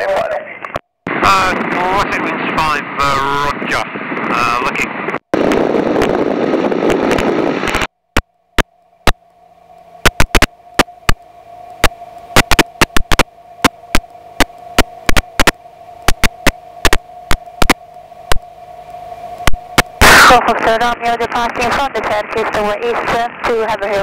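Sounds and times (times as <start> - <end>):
radio static clicks: 0.0 - 24.0
steady hum tone: 0.0 - 24.0.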